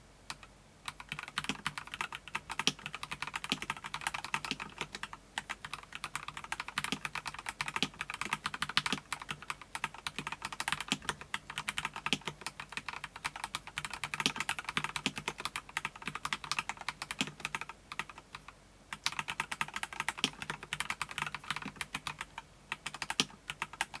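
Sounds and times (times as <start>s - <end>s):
mechanical keyboard typing: 0.3s - 24.0s.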